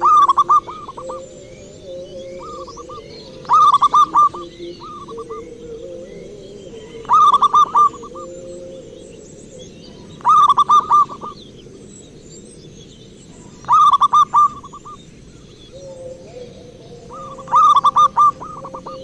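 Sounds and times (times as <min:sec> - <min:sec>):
dove cooing: 0:00.0 - 0:11.8, 0:13.3 - 0:15.0, 0:15.7 - 0:19.0.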